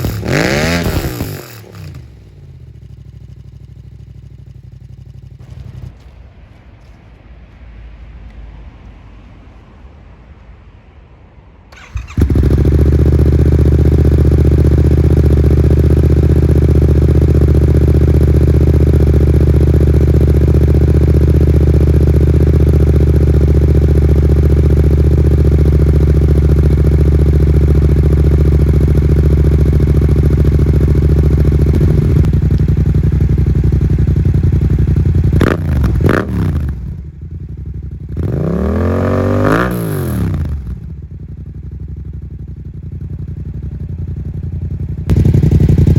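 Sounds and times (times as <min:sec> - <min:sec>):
motorcycle engine idling and revving: 0:00.0 - 0:07.2, 0:11.7 - 0:45.9.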